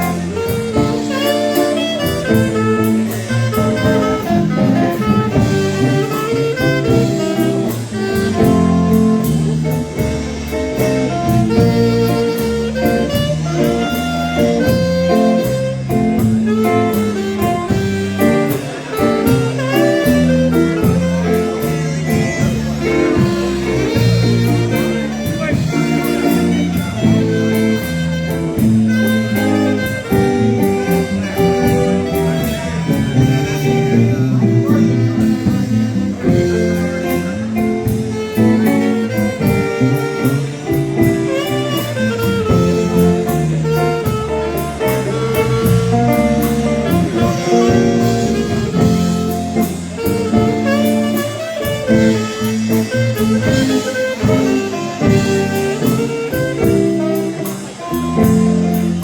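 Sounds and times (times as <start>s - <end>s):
polka band playing: 0.0s - 59.0s
steady drum beat: 0.0s - 59.0s.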